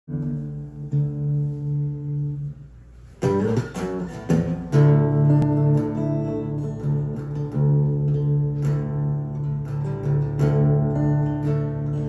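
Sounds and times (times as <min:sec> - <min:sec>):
acoustic guitar strumming: 0:00.1 - 0:12.0.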